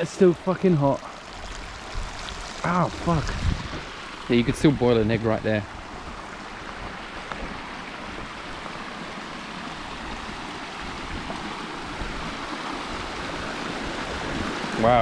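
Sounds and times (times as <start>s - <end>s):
spring water flowing: 0.0s - 15.0s.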